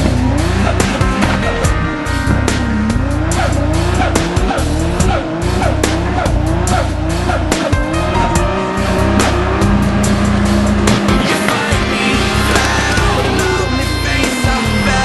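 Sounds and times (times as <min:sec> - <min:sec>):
music with a steady beat: 0:00.0 - 0:15.0
turbocharged engine revving hard: 0:00.0 - 0:15.0.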